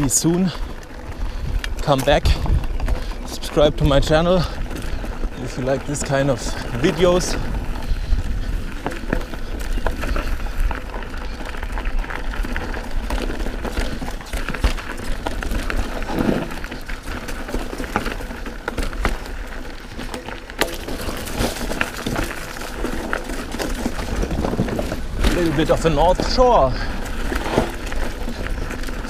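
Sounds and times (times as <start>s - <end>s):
bike clattering: 0.0s - 29.0s
tyres crunching over loose stones: 0.0s - 29.0s.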